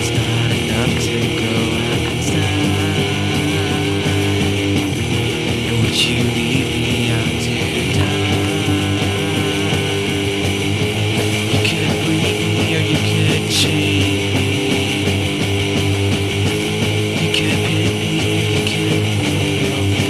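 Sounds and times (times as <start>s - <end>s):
full band backing: 0.0s - 20.0s
strummed electric guitars: 0.0s - 20.0s.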